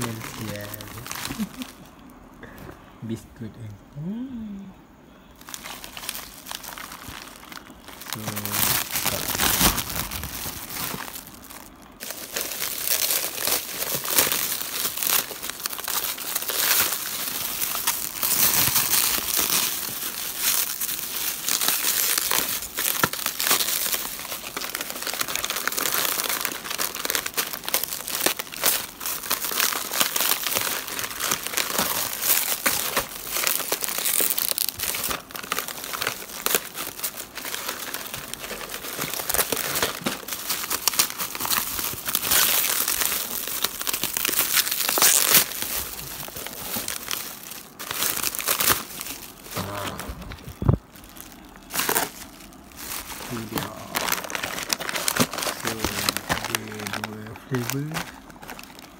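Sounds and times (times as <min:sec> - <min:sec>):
plastic packaging crinkling: 0:00.0 - 0:03.2, 0:05.1 - 0:58.9.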